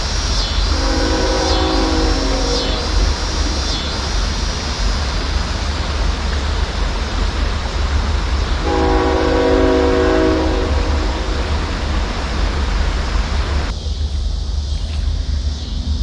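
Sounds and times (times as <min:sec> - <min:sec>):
train horn blast: 0:00.6 - 0:13.7.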